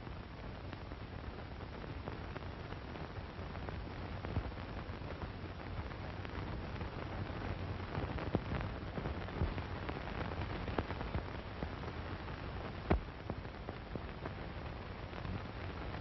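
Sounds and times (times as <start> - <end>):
film soundtrack hiss and crackle: 0.0 - 16.0.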